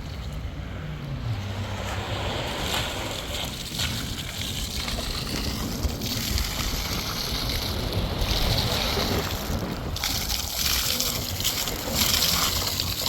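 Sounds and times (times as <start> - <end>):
sea water washing: 0.0 - 13.0
wind buffeting microphone: 0.0 - 13.0.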